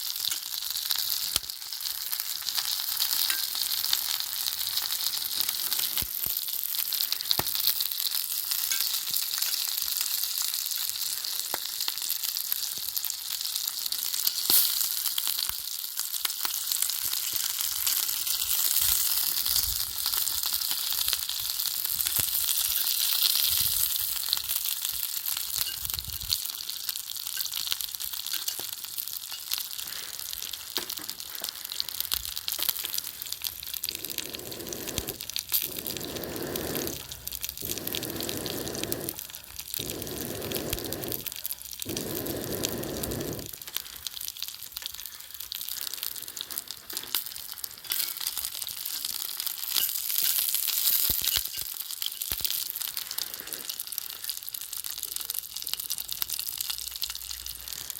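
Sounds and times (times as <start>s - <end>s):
fire popping and crackling: 0.0s - 57.9s
food sizzling over fire: 0.0s - 57.9s.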